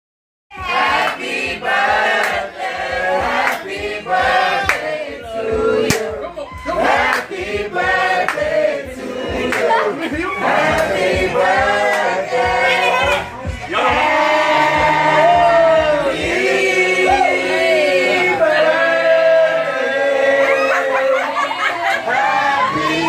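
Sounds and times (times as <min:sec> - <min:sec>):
several voices singing over a beat: 0:00.5 - 0:23.0.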